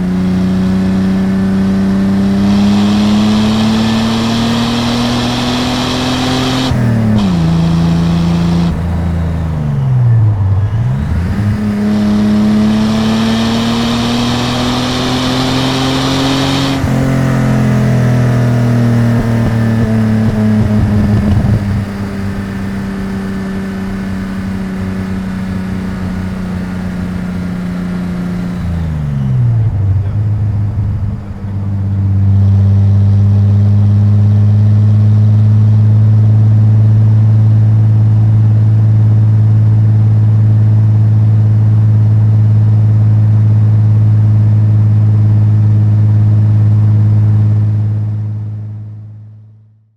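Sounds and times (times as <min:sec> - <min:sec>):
car engine and exhaust accelerating: 0:00.0 - 0:49.5.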